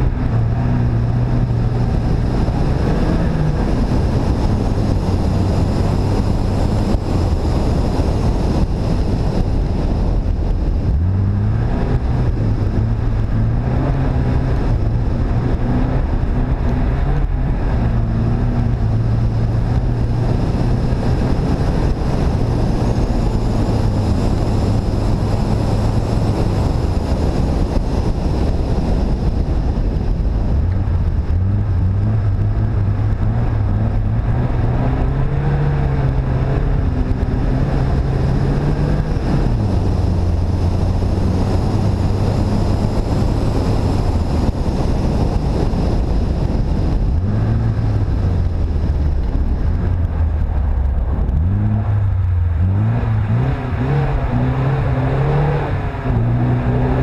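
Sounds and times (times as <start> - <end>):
car engine revving while driving: 0.0 - 57.0
wind buffeting microphone: 0.0 - 57.0.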